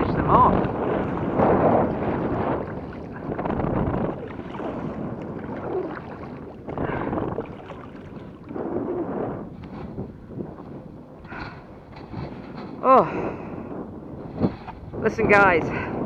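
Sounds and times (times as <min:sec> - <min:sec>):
water moving against kayak: 0:00.0 - 0:16.0
wind buffeting microphone: 0:00.0 - 0:16.0.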